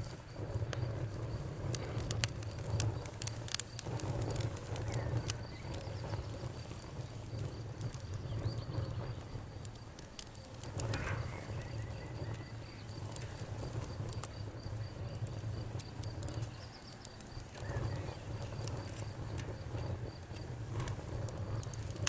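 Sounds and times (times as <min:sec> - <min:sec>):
campfire crackling and popping: 0:00.0 - 0:22.0
cricket trilling: 0:00.0 - 0:22.0.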